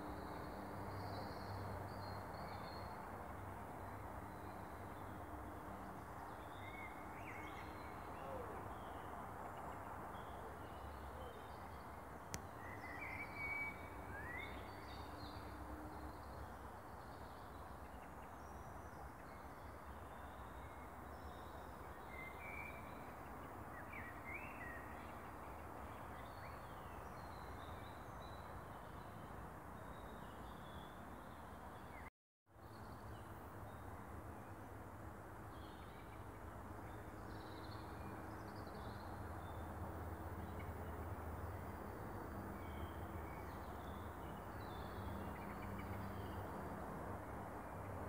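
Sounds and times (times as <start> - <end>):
faint outdoor background noise: 0.0 - 48.0.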